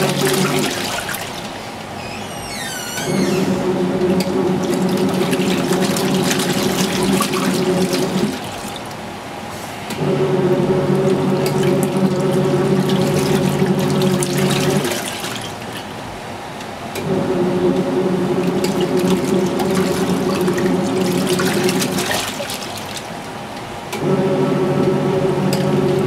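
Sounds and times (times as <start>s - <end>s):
washing machine motor humming: 0.0s - 26.0s
water sloshing: 0.0s - 26.0s.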